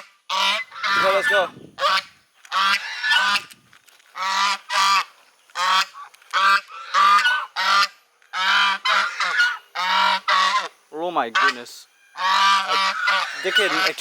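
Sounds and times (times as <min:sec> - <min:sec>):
geese honking: 0:00.0 - 0:03.5, 0:04.1 - 0:14.0.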